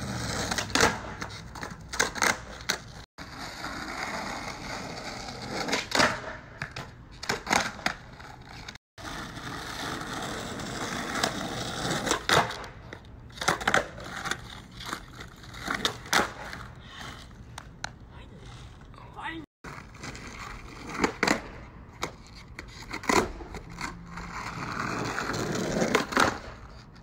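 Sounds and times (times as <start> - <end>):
skateboard wheels rolling on asphalt: 0.0 - 18.6, 19.6 - 27.0.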